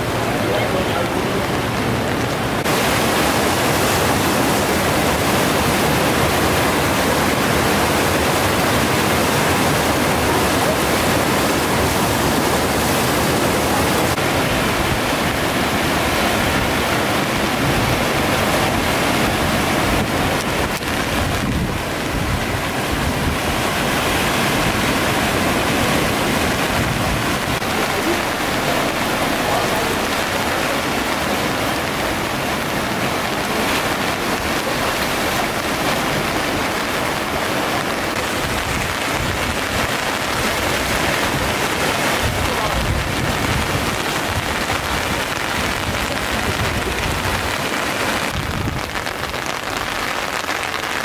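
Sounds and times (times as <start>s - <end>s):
floodwater rushing: 0.0s - 51.0s.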